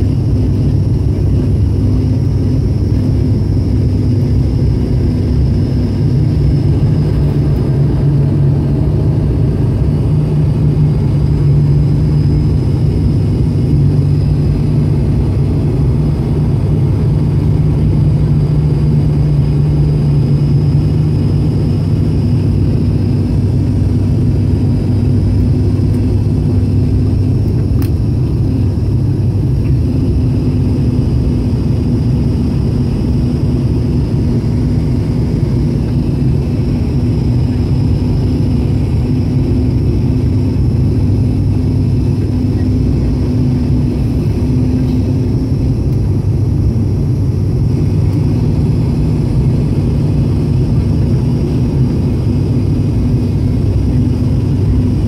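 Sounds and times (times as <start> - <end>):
propeller engines droning: 0.0 - 55.0.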